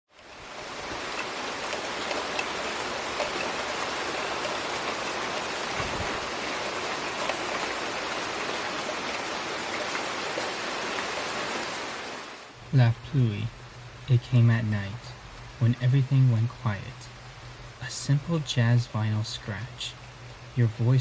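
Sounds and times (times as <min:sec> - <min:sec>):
raindrops pattering: 0:00.1 - 0:21.0
steady rain falling: 0:00.1 - 0:21.0.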